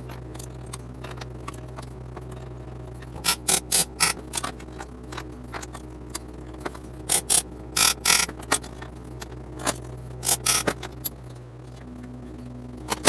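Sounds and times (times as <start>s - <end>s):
metal clamps clicking and clanking: 0.0s - 11.9s
steady low hum: 0.0s - 13.0s.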